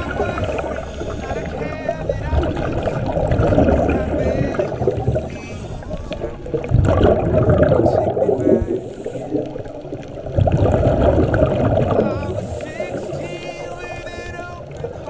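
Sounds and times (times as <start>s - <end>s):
underwater regulator bubbles gurgling: 0.0s - 15.0s.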